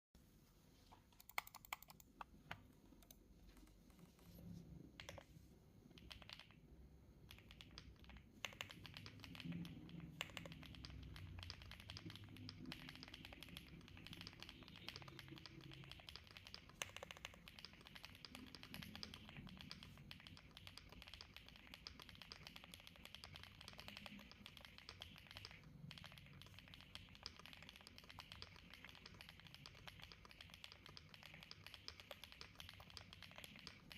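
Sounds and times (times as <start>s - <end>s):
mechanical keyboard typing: 1.1s - 2.3s, 5.0s - 5.3s, 5.9s - 6.6s, 7.2s - 33.9s.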